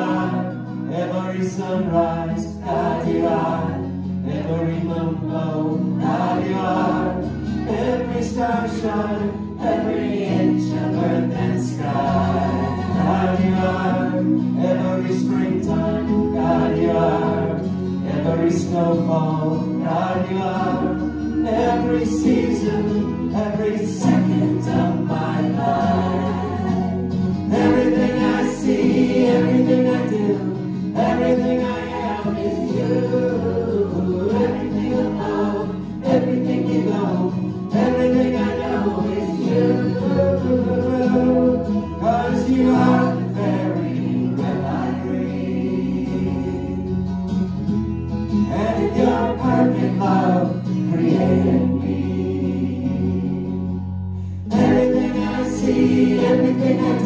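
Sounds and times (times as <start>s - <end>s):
women singing: 0.0s - 47.0s, 48.5s - 53.7s, 54.5s - 57.0s
acoustic guitar: 0.0s - 57.0s
bass line: 0.0s - 57.0s.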